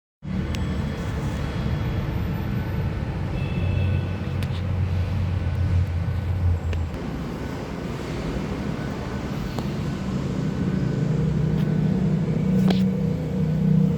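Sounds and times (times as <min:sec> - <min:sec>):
vehicle engine rumble: 0:00.2 - 0:13.9.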